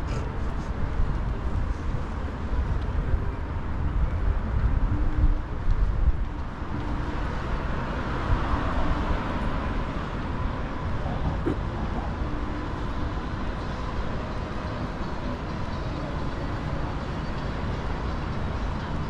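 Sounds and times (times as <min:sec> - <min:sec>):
rumble of road traffic: 0:00.0 - 0:19.0.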